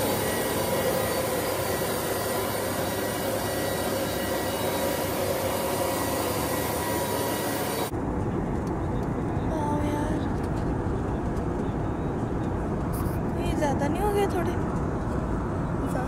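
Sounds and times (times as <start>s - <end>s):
jet turbine whine: 0.0s - 13.4s
constant rushing noise: 0.0s - 16.0s.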